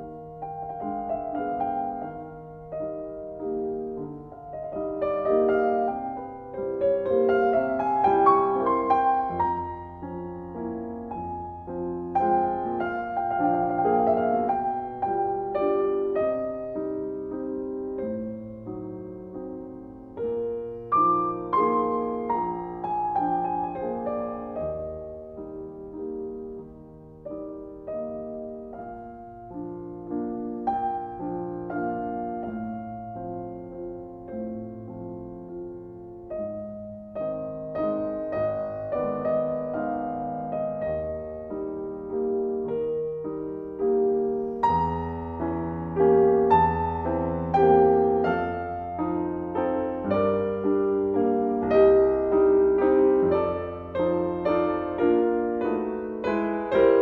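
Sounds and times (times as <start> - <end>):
solo piano music: 0.0 - 57.0.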